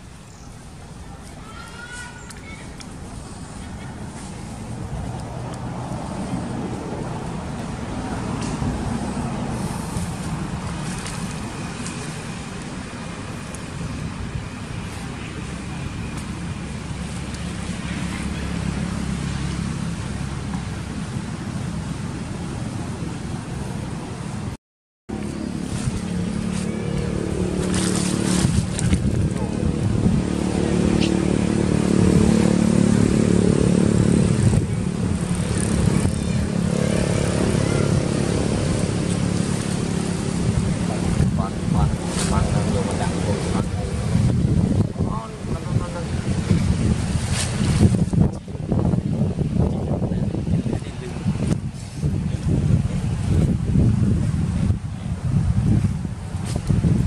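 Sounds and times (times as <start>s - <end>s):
engine humming: 0.0s - 52.2s
low rumble of distant traffic: 0.0s - 57.0s.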